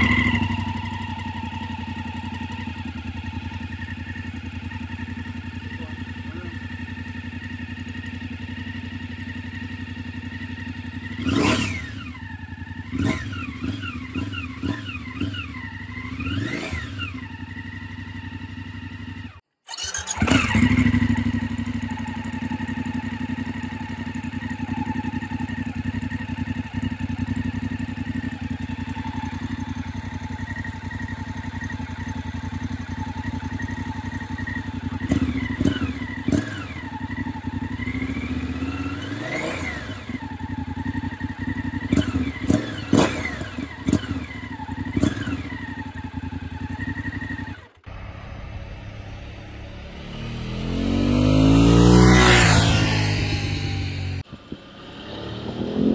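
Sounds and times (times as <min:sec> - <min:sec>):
motorcycle engine idling and revving: 0:00.0 - 0:55.9.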